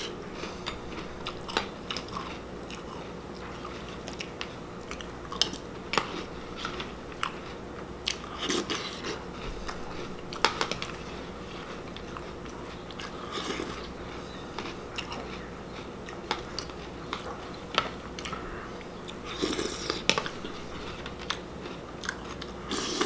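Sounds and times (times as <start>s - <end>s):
person chewing cereal: 0.0s - 23.0s
steady low hum: 0.0s - 23.0s.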